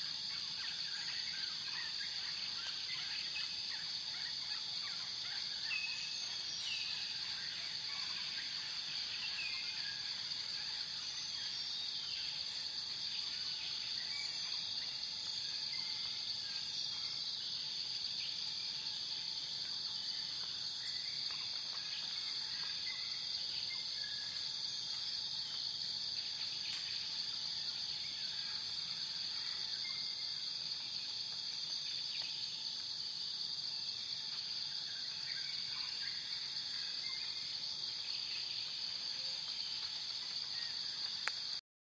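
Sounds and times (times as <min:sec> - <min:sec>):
high-pitched insect chorus: 0:00.0 - 0:41.6.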